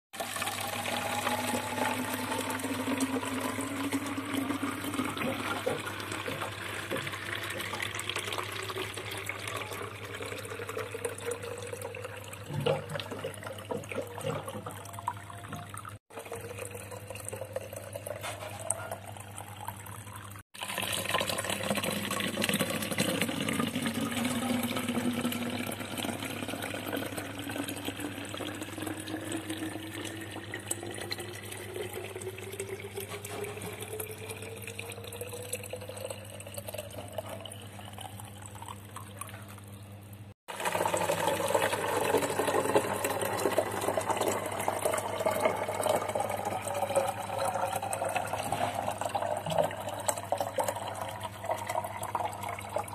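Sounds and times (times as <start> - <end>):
water pouring into a bottle: 0.2 - 39.4, 40.5 - 52.9.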